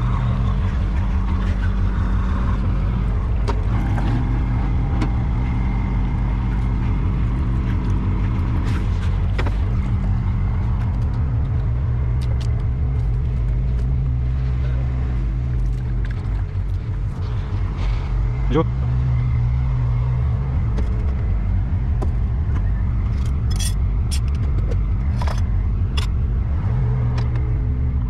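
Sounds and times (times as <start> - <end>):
diesel engine idling: 0.0 - 26.8.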